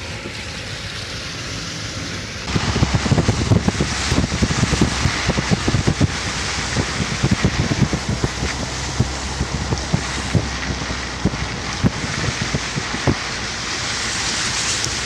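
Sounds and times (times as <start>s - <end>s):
heavy rain: 0.0s - 15.0s
low thumps buffeting microphone: 2.4s - 14.6s.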